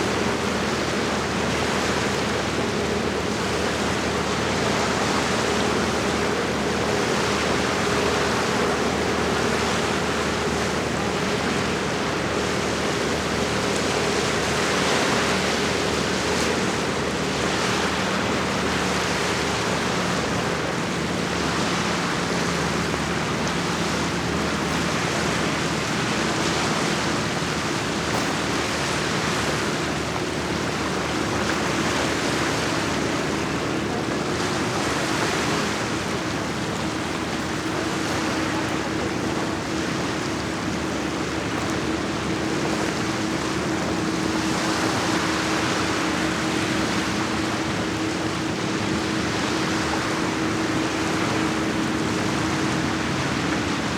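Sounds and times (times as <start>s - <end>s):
lake water lapping: 0.0s - 53.9s.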